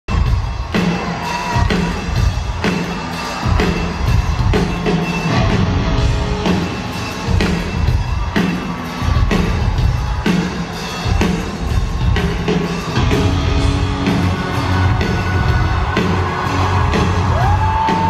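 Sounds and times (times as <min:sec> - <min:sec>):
heavy drum beat: 0:00.1 - 0:18.0
live rock band playing: 0:00.1 - 0:18.0.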